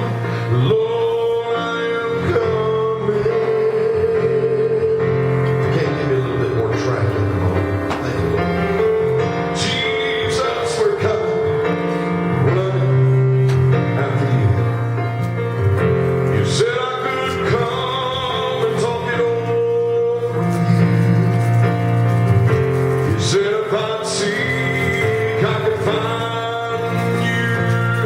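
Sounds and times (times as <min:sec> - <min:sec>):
instrumental backing track: 0:00.0 - 0:28.0
man singing gospel song: 0:00.0 - 0:28.0.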